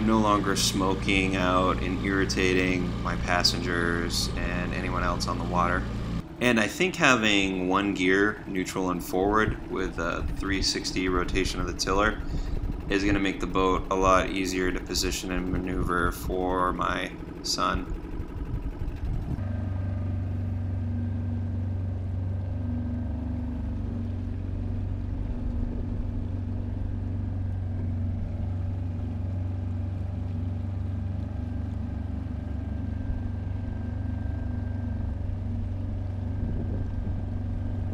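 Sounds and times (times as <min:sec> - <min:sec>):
outboard motor droning: 0:00.0 - 0:37.9.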